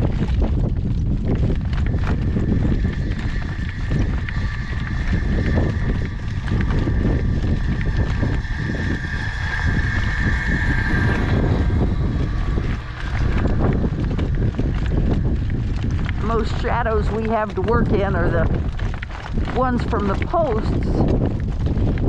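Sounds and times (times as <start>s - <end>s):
steady high whine: 0.0s - 22.0s
wind buffeting microphone: 0.0s - 22.0s.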